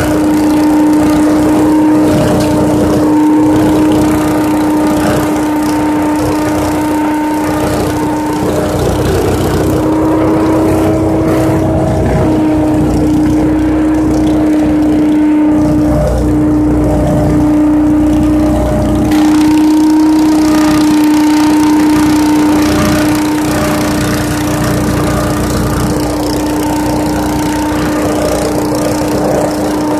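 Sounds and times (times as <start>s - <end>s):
leaf vacuum running: 0.0s - 29.9s.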